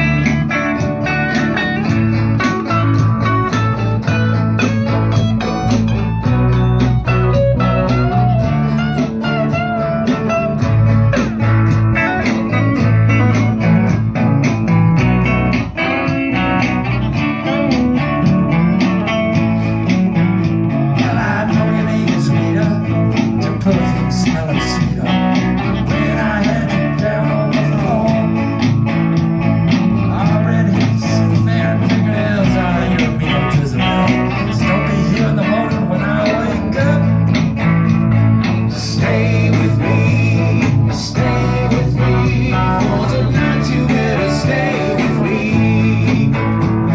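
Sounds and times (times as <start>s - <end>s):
bass guitar: 0.0s - 46.9s
drums keeping a steady beat: 0.0s - 46.9s
electric guitar solo with bent notes: 0.0s - 46.9s
rhythm guitar: 0.0s - 46.9s.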